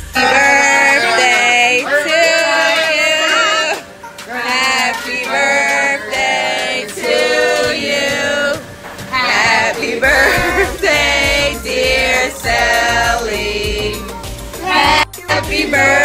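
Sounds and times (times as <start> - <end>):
music with singing: 0.0 - 16.0.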